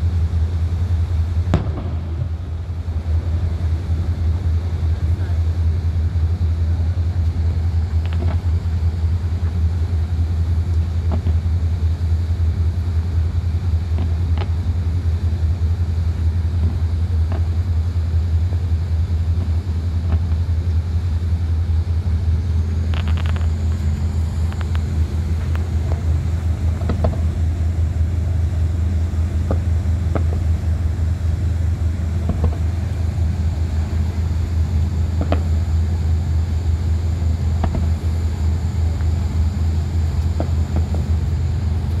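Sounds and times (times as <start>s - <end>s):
boat engine drone: 0.0s - 42.0s.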